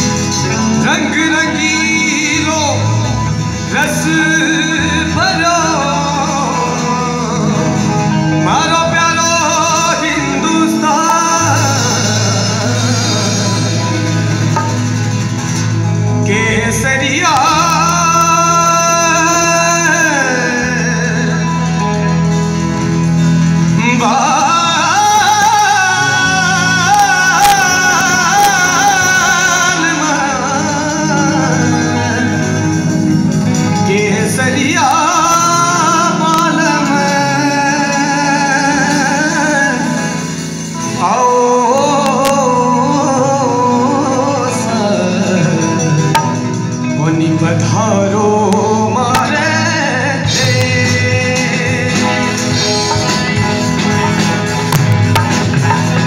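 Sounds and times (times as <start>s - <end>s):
acoustic guitar: 0.0s - 56.0s
drums: 0.0s - 56.0s
live rock band playing: 0.0s - 56.0s
man singing: 0.0s - 56.0s.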